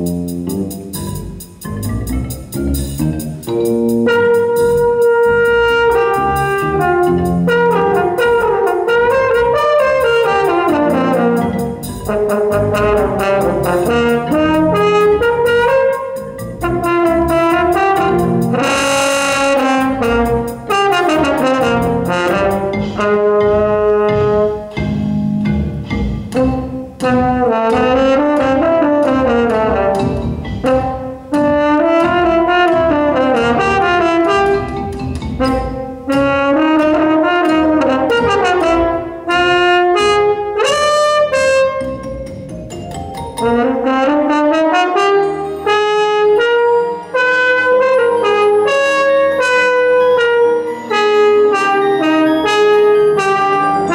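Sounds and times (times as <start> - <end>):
french horn melody: 0.0 - 0.8, 3.5 - 24.8, 26.3 - 42.2, 43.4 - 53.9.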